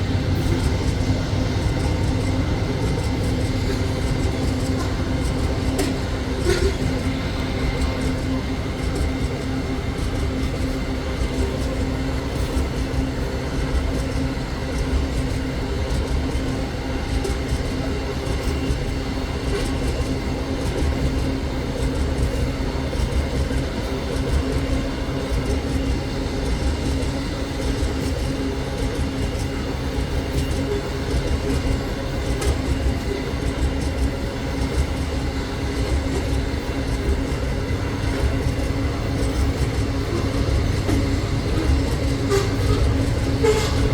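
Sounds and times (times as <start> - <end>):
freight train rumbling: 0.0 - 43.9.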